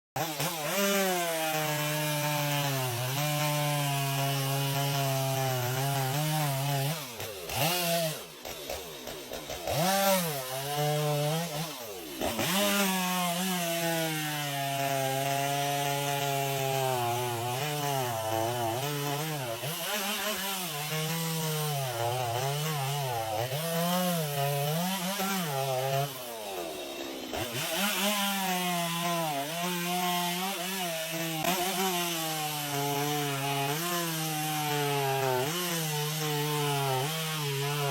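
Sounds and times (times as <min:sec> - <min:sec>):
chainsaw cutting wood: 0:00.2 - 0:37.9.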